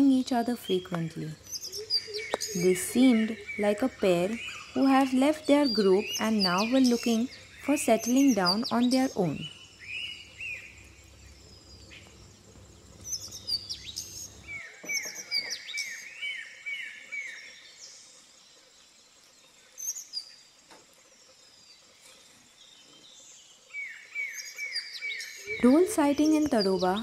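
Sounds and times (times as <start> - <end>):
wild birds chirping: 0.0 - 27.0.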